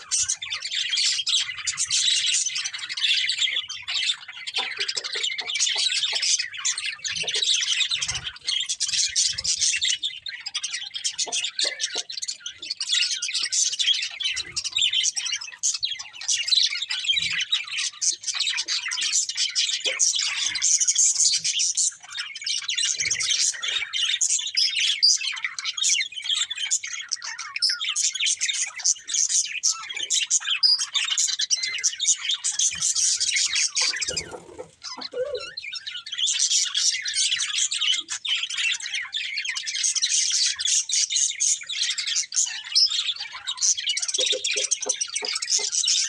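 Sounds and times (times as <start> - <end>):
budgies chirping and chattering: 0.0 - 46.0.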